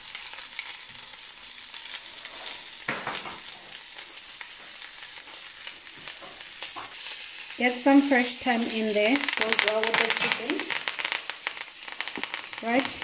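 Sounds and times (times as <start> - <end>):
meat sizzling in butter: 0.0 - 13.0.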